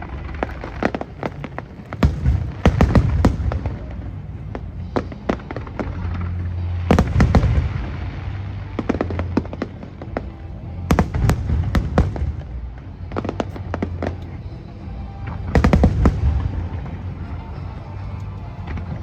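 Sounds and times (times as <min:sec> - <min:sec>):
fireworks bursting: 0:00.0 - 0:19.0
low rumble: 0:00.0 - 0:19.0.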